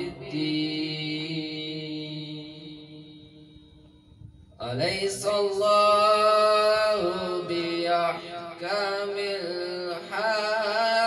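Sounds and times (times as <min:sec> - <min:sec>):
man chanting through loudspeaker: 0:00.0 - 0:03.8, 0:04.6 - 0:11.0.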